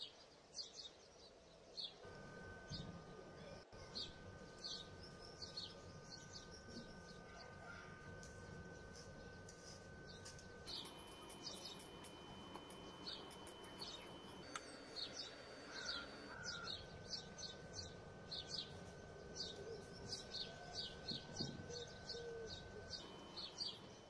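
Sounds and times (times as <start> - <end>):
faint high whine: 1.5 - 24.0.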